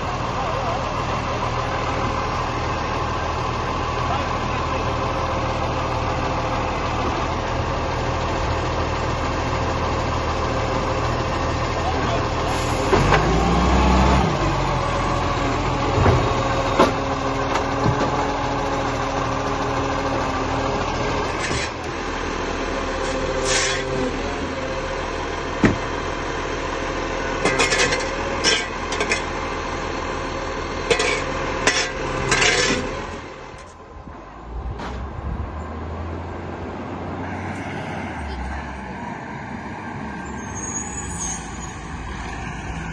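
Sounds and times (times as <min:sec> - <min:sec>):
garbage truck engine whine: 0:00.0 - 0:42.9.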